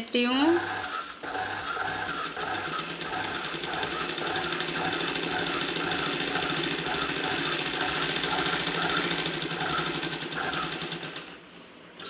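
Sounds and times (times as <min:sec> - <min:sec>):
sewing machine stitching: 0:00.5 - 0:11.4.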